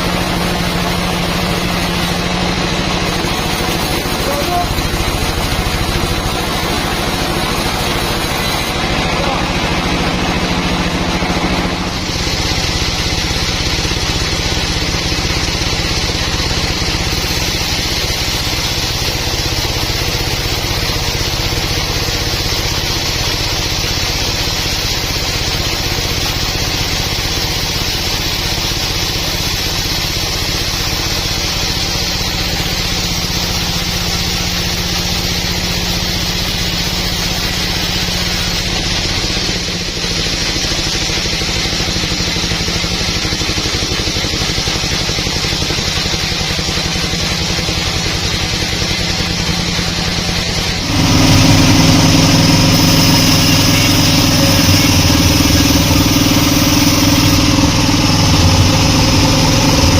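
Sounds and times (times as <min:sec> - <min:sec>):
sawmill machinery engine humming: 0:00.0 - 0:59.9.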